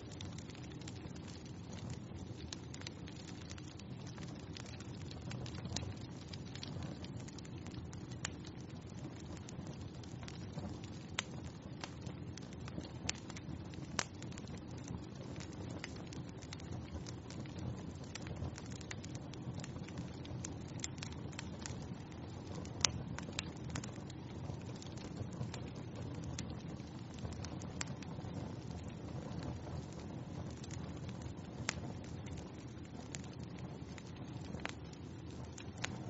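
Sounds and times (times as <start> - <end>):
wood fire crackling in fireplace: 0.0 - 36.0.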